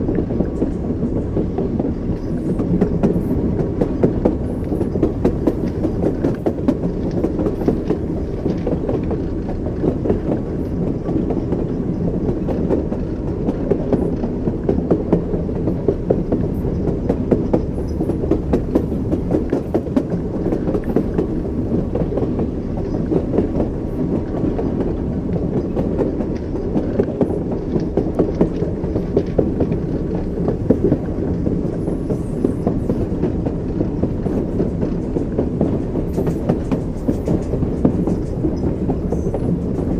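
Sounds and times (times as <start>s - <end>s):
train rumbling: 0.0s - 39.9s
train wheels clacking: 0.0s - 39.9s.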